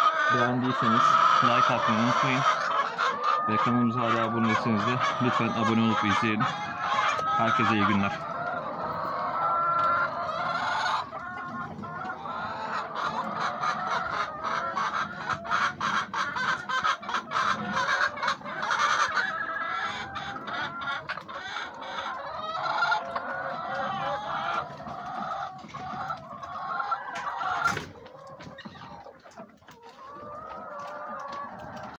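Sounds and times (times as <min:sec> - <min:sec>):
hens clucking: 0:00.0 - 0:32.0.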